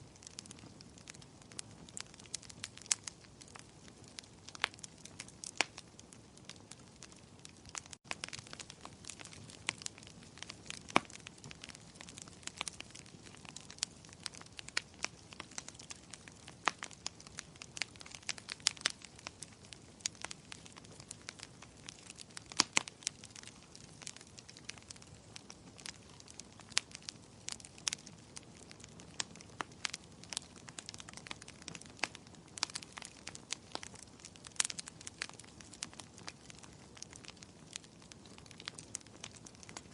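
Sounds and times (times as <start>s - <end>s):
low steady hiss: 0.0s - 39.9s
wood fire crackling: 0.0s - 39.9s.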